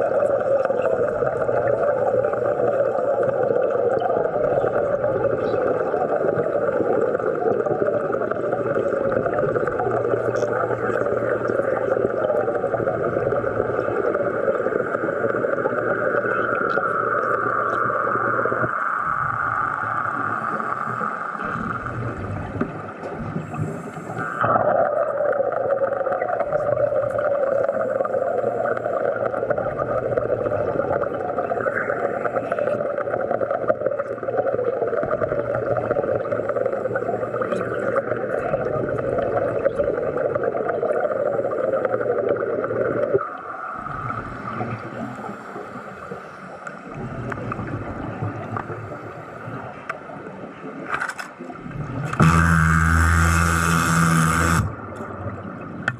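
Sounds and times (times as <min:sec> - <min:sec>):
underwater air bubbling and rushing: 0:00.0 - 0:55.9.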